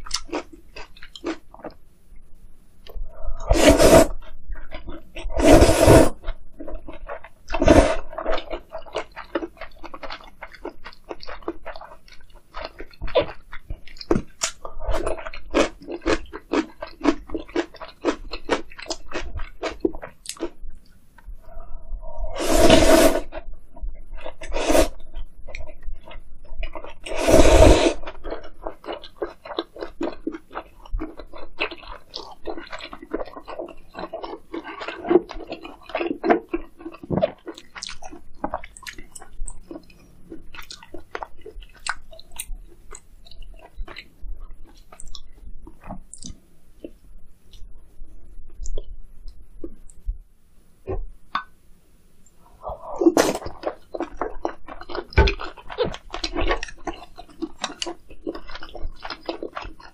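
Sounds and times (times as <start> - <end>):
wet crunchy chewing: 3.4 - 20.6, 24.1 - 47.6, 52.6 - 59.9.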